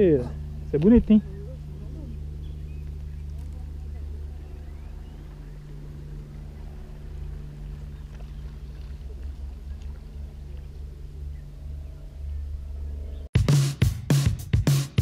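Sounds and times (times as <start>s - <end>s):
low motor hum: 0.0s - 13.3s.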